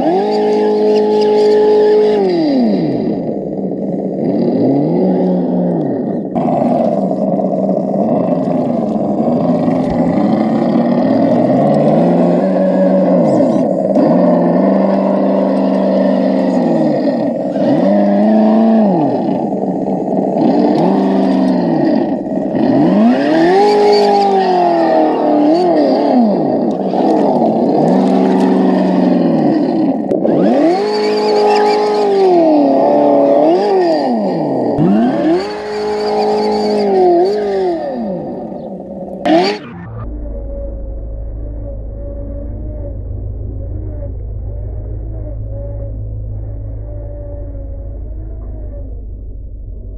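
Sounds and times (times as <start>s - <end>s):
simulated truck engine revving: 0.0s - 49.9s.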